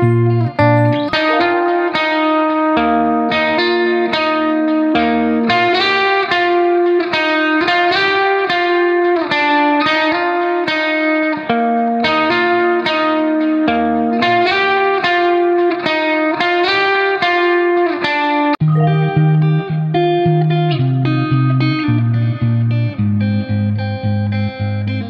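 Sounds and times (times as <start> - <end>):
plucked-string instrumental music: 0.0 - 17.8, 18.6 - 23.7.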